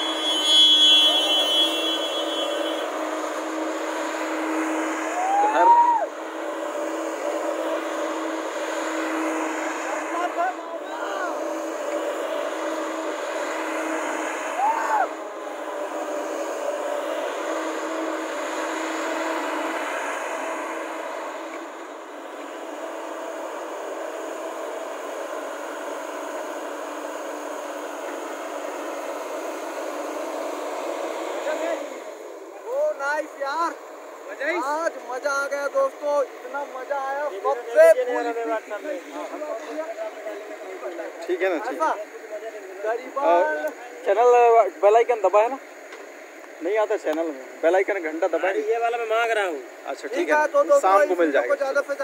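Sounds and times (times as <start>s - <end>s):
excavator diesel engine humming: 0.0s - 52.0s
high whine: 0.0s - 52.0s.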